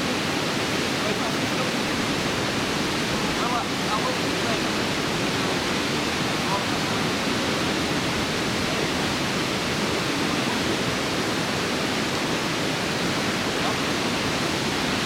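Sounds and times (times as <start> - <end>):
river water pouring over weir: 0.0 - 15.0.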